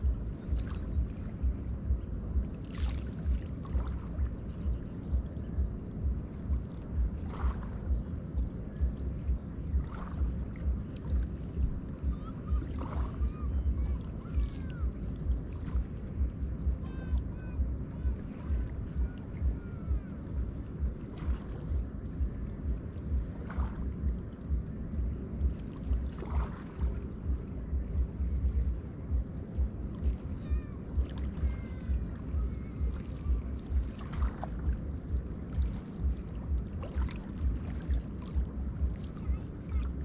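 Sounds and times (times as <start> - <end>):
waves lapping against bank: 0.0 - 40.0
wind rumble on microphone: 0.0 - 40.0.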